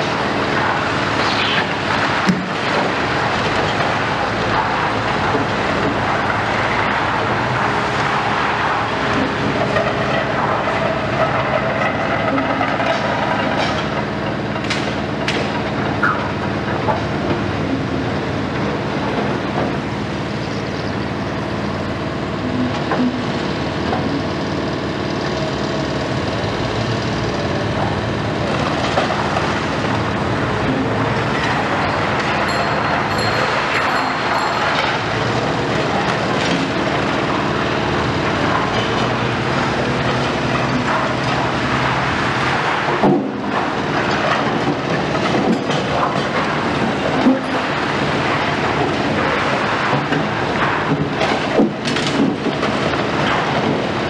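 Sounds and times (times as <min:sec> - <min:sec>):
crunching and rattling masonry: 0:00.0 - 0:54.0
excavator diesel engine under load: 0:00.0 - 0:54.0.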